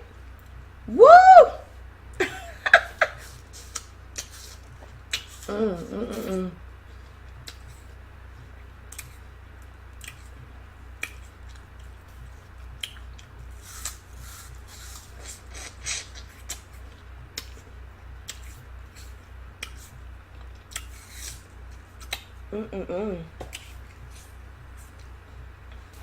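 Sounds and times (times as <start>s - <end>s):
steady low hum: 0.0s - 26.0s
crisp fruit chewing: 3.0s - 22.5s, 23.3s - 26.0s.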